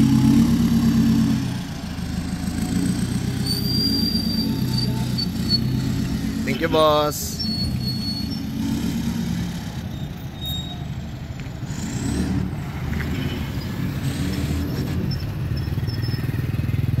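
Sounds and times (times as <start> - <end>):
vehicle engines running: 0.0 - 17.0.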